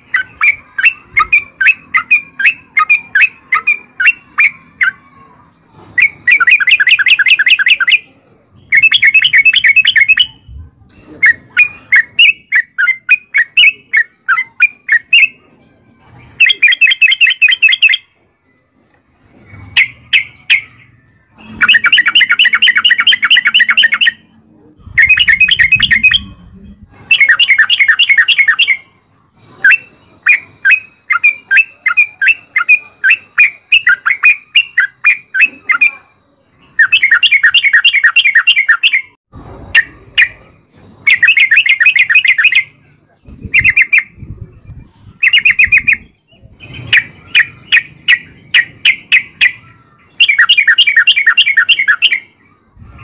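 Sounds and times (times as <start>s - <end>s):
bird singing chattering song: 0.0s - 39.2s, 39.8s - 53.0s.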